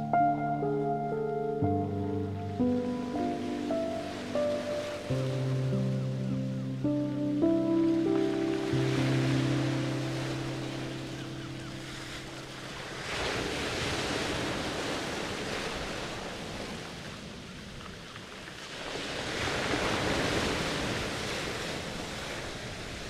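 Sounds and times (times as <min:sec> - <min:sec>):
rushing water waves: 0:02.2 - 0:23.0.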